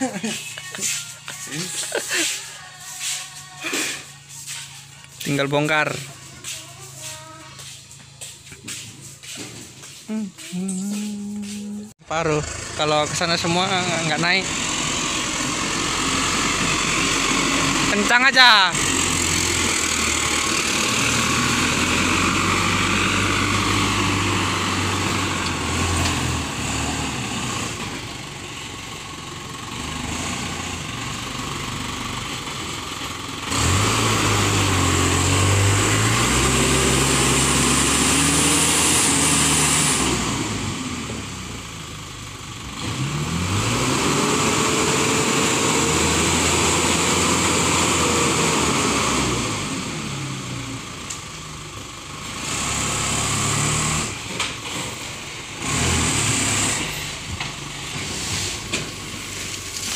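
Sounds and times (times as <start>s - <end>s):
truck diesel engine revving: 0.0s - 59.9s.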